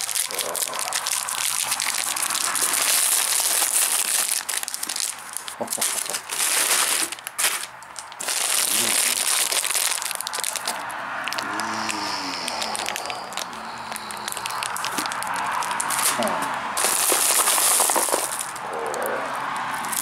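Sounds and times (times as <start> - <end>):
sweet wrappers crinkling: 0.0 - 20.0.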